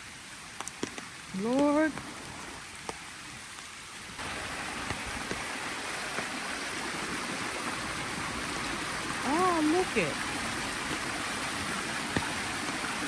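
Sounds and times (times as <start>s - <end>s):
rush of water: 0.0s - 13.0s
steady rain: 0.0s - 13.0s.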